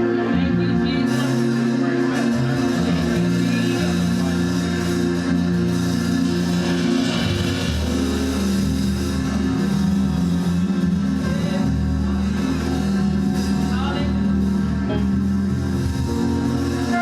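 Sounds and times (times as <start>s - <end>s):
gospel band playing: 0.0s - 17.0s.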